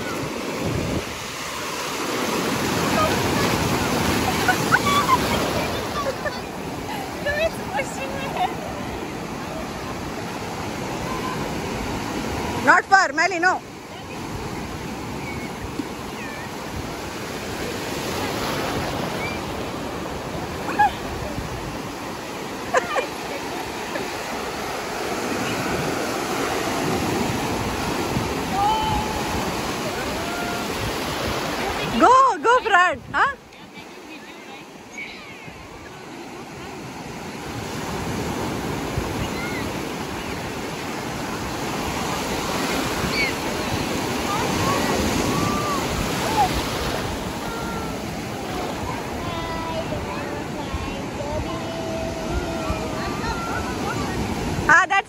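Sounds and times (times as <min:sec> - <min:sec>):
sea surf breaking: 0:00.0 - 0:55.0.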